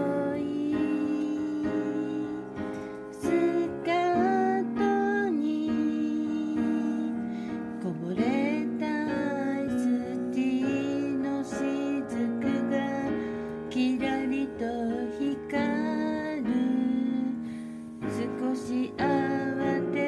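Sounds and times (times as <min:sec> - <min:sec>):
piano accompaniment: 0:00.0 - 0:20.0
woman singing: 0:00.0 - 0:20.0.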